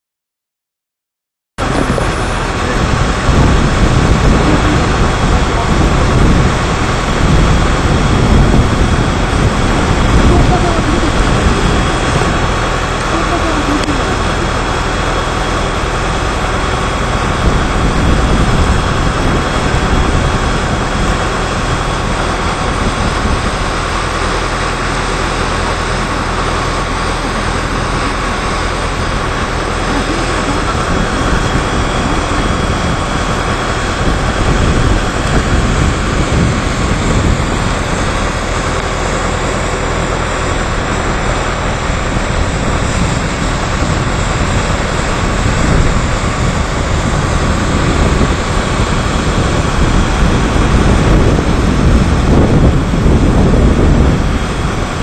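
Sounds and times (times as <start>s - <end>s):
high-pressure water jet spraying: 1.6s - 55.0s
steady machine hum: 1.6s - 55.0s.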